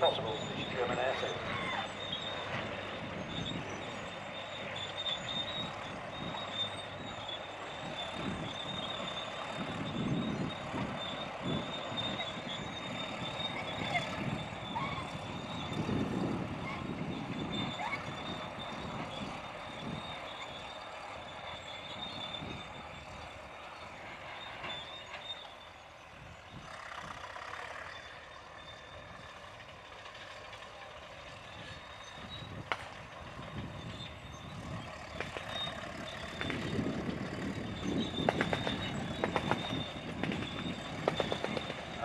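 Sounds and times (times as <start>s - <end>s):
jeep engines running: 0.0s - 42.0s.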